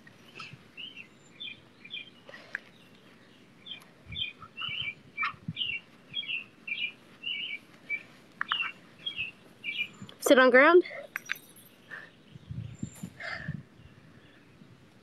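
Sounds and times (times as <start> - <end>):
songbird chirping: 0.0 - 14.9.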